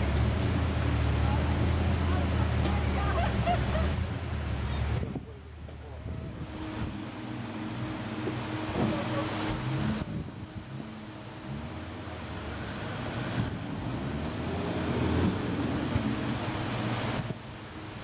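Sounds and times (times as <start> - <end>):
engine working under load: 0.0 - 18.0
stream rushing: 0.0 - 18.0.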